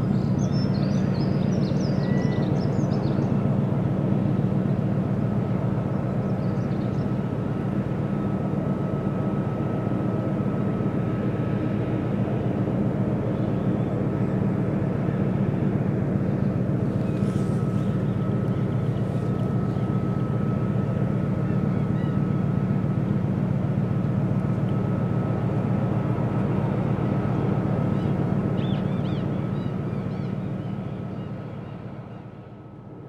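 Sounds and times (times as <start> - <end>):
faint steady whine: 0.0 - 33.0
ship engine drone: 0.0 - 33.0.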